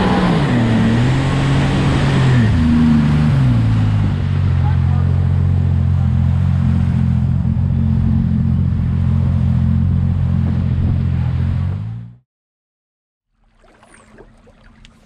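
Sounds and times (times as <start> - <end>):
rushing water: 0.0 - 11.8, 13.3 - 15.0
boat engine drone: 0.0 - 12.2
wind: 0.0 - 12.2, 13.3 - 15.0.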